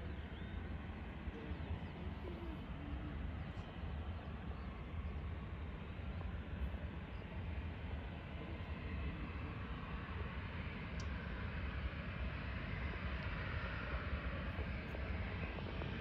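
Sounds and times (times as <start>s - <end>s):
constant low rumble: 0.0s - 16.0s
distant jet engine noise: 0.0s - 16.0s.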